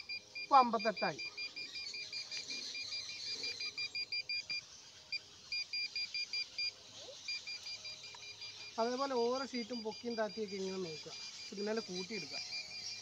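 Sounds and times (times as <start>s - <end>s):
rapid high beeps: 0.0s - 13.0s.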